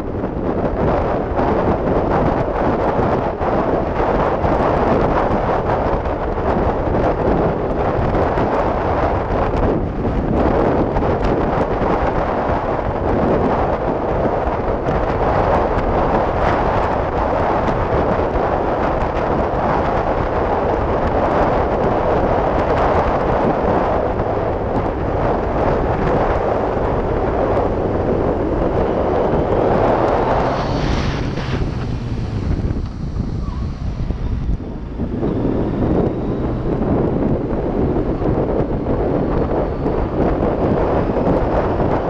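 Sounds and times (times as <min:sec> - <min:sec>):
motorcycle engine low tone: 0:00.0 - 0:42.0
wind buffeting microphone: 0:00.0 - 0:42.0.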